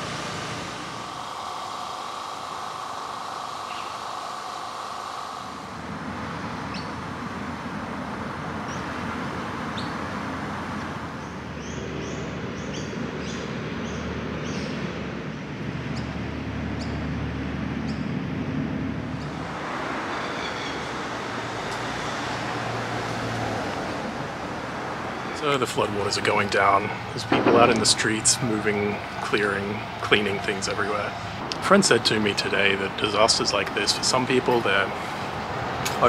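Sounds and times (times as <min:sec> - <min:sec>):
birds chirping: 0:00.0 - 0:07.5, 0:08.5 - 0:17.2, 0:17.8 - 0:18.3, 0:19.0 - 0:23.4, 0:24.6 - 0:35.8
traffic hum: 0:00.0 - 0:36.0
deep vehicle rumble: 0:04.7 - 0:36.0.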